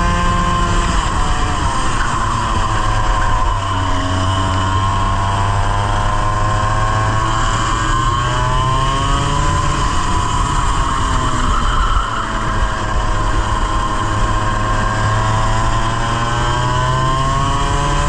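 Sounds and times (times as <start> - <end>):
kart engine revving: 0.0 - 18.0.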